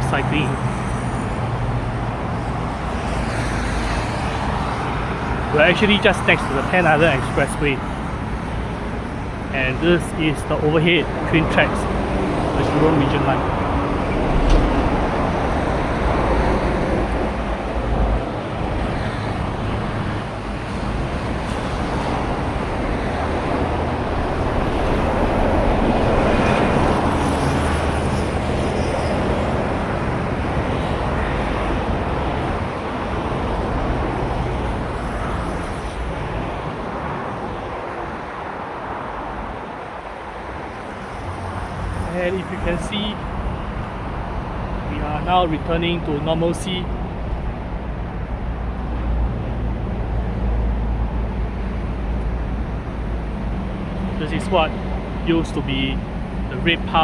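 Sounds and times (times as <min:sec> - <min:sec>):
road traffic rushing: 0:00.0 - 0:57.0.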